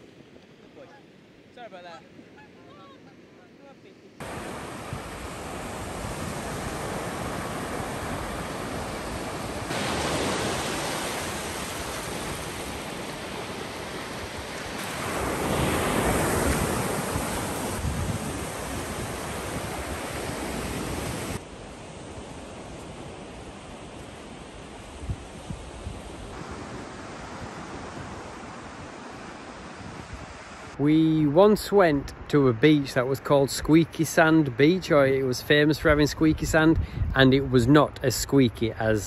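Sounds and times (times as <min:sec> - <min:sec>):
surf breaking on a sandy beach: 0:00.0 - 0:39.0.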